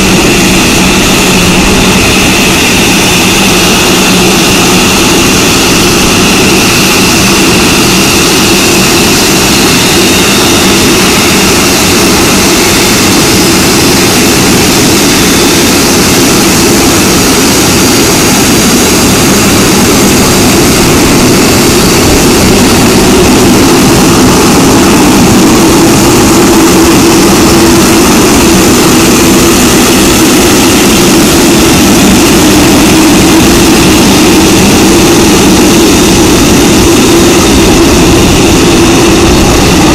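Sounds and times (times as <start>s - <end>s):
jet engine whine and rumble: 0.0s - 39.9s.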